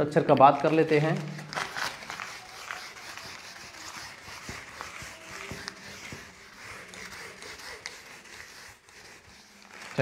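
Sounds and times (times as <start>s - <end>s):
whiteboard duster scrubbing: 0.7s - 10.0s.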